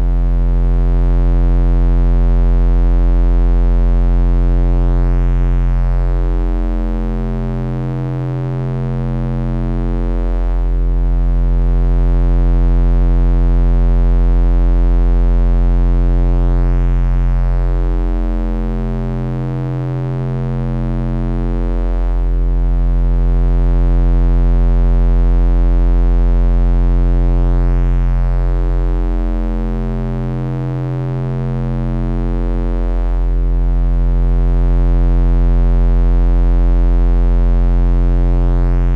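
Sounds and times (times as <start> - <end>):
deep electronic drone: 0.0 - 38.9.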